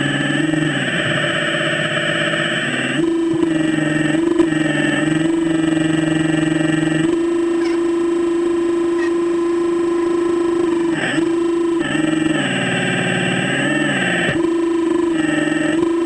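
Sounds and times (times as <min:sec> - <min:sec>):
electric motors buzzing whine: 0:00.0 - 0:16.0.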